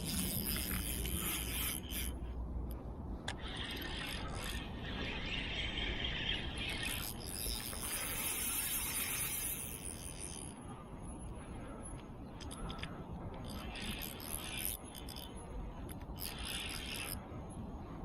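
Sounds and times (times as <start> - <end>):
fishing reel ratcheting: 0.0 - 10.6, 11.9 - 17.3.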